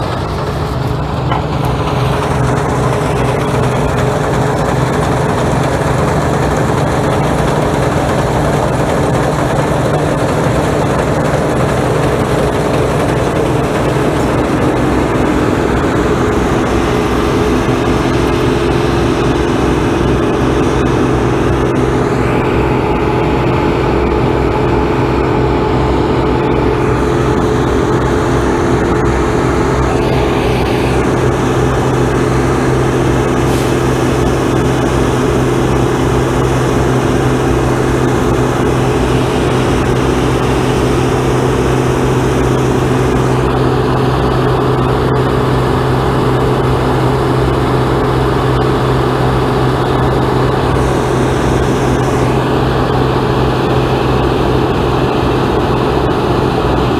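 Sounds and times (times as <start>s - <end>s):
combine harvester engine hum: 0.0s - 56.9s.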